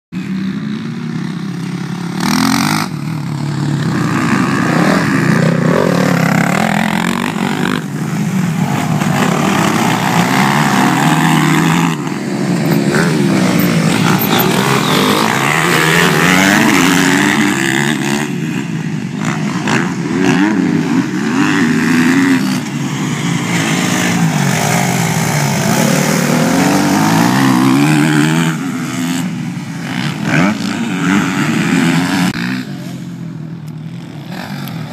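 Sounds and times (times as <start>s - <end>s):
dirt bike engines revving: 0.2s - 34.9s.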